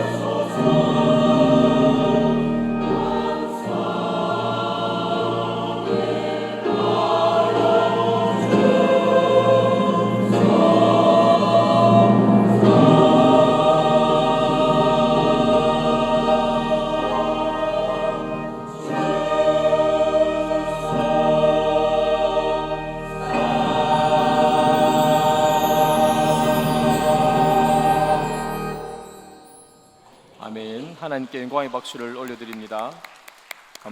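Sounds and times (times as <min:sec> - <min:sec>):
church choir singing: 0:00.0 - 0:30.9.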